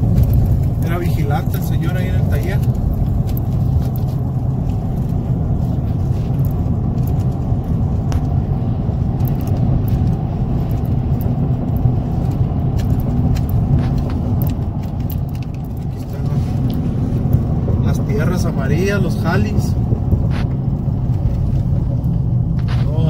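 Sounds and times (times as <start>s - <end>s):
engine and road rumble: 0.0s - 23.0s.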